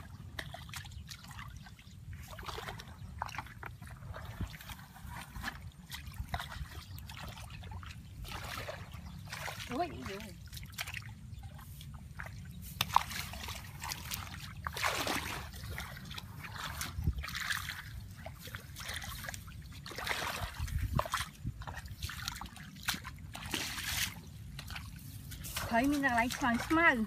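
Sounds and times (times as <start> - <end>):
muddy water splashing: 0.0 - 27.0.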